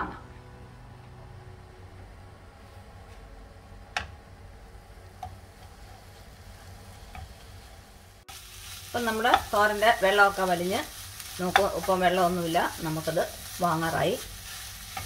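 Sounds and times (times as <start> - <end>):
faint sizzle: 2.5 - 15.0.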